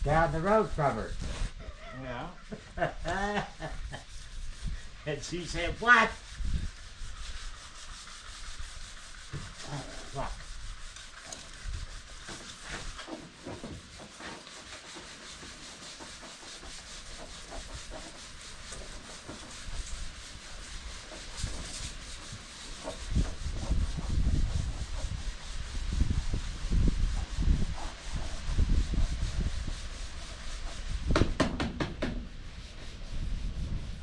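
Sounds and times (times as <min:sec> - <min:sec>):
sandpaper rubbing: 0:00.1 - 0:01.6, 0:02.4 - 0:31.2, 0:32.3 - 0:34.0.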